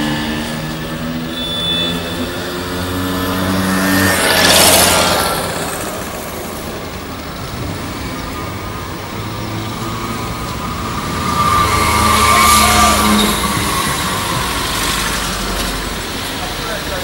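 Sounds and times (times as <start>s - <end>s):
motor scooter passing: 0.0s - 17.0s
street traffic noise: 0.0s - 17.0s
vehicle engine: 0.0s - 17.0s.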